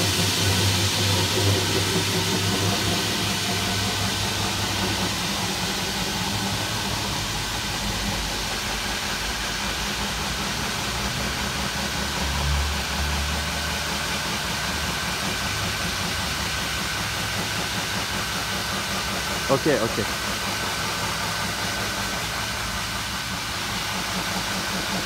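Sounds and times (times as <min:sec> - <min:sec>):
core drill boring through concrete: 0:00.0 - 0:25.0.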